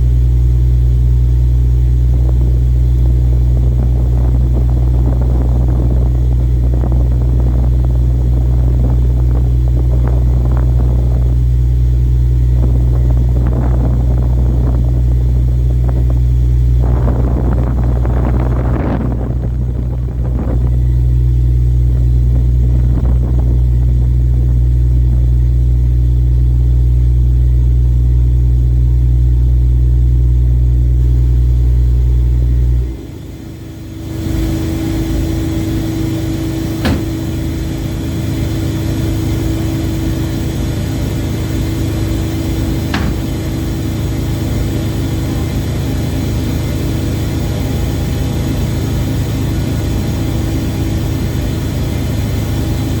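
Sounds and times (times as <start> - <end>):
noisy drone with faint tone: 0.0 - 53.0
ship engine humming: 0.0 - 53.0.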